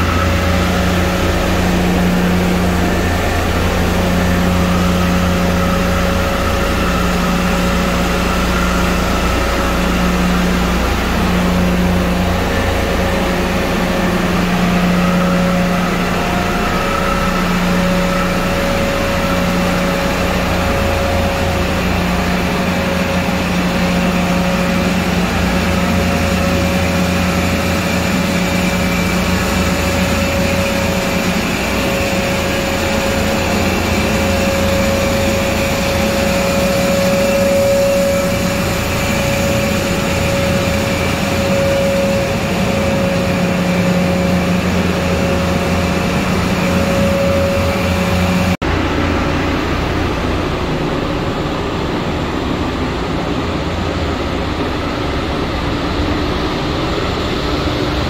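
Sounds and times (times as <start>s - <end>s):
engine room machinery hum: 0.0s - 58.0s.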